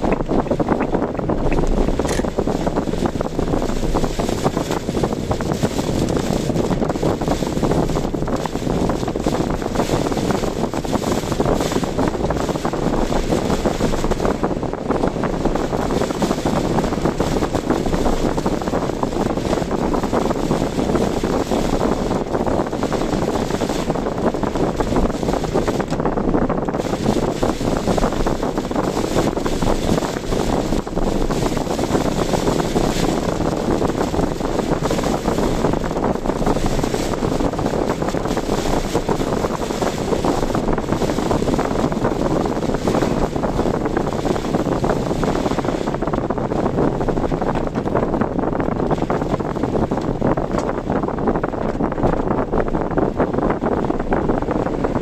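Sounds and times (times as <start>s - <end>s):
car road noise: 0.0s - 55.0s
rushing wind: 0.0s - 55.0s.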